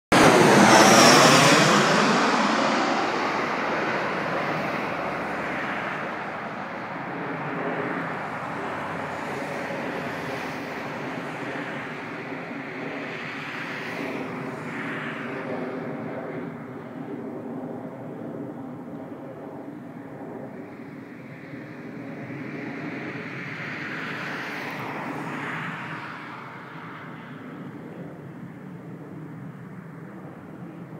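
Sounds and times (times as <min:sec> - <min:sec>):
jet airliner drone: 0:00.1 - 0:30.9.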